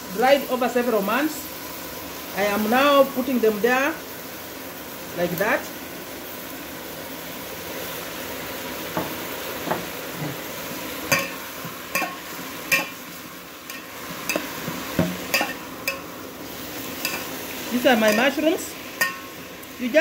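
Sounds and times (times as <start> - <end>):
food sizzling: 0.0 - 20.0.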